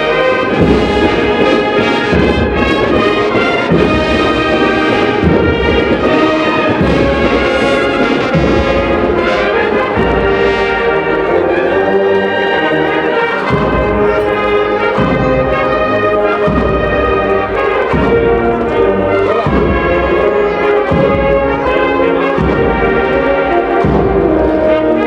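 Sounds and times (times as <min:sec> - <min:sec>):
brass section playing a march: 0:00.0 - 0:25.0.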